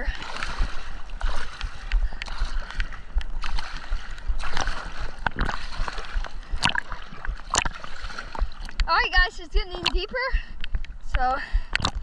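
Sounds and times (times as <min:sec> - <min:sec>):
water splashing from swimming: 0:00.0 - 0:12.0.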